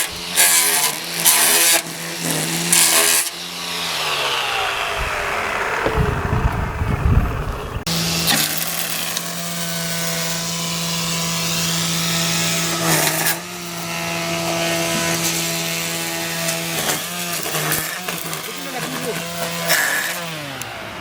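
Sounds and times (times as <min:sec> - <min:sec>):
string trimmer cutting grass: 0:00.0 - 0:21.0.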